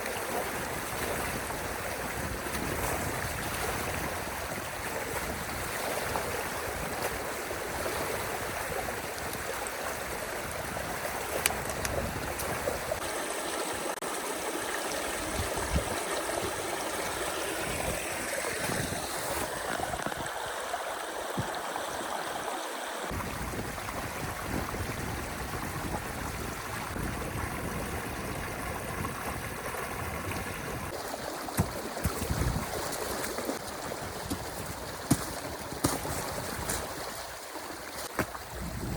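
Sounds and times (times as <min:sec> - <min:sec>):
water running down a channel: 0:00.0 - 0:38.9.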